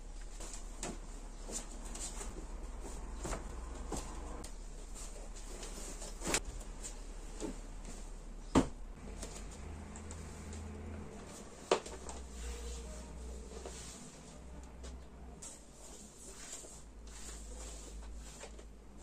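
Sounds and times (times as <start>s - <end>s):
soft handling and rustling: 0.0s - 19.0s.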